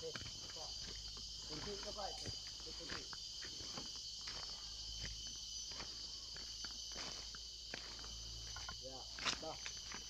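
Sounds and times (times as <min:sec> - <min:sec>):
footsteps on forest floor: 0:00.0 - 0:10.0
high-pitched insect chorus: 0:00.0 - 0:10.0.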